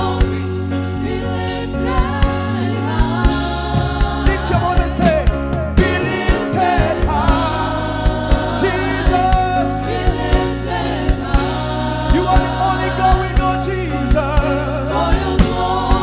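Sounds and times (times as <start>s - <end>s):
band with bass and drums: 0.0s - 16.0s
choir and congregation singing: 0.0s - 16.0s.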